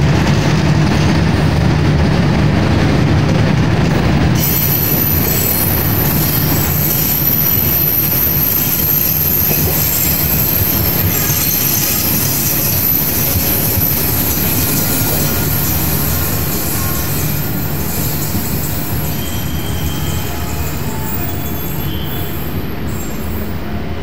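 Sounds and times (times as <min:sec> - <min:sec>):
train wheels rumbling on rail: 0:00.0 - 0:24.0
steel wheels squealing: 0:04.4 - 0:24.0.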